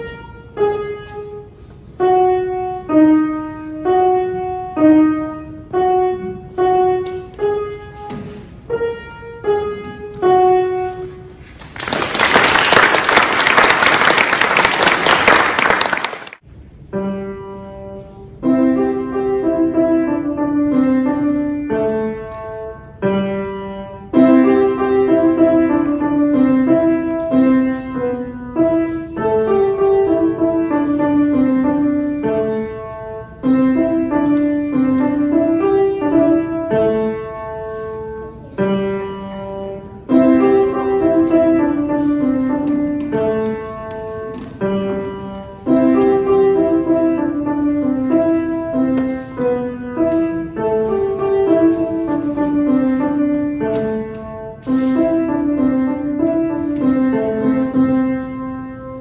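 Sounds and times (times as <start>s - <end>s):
child playing piano: 0.0s - 11.5s, 16.9s - 59.0s.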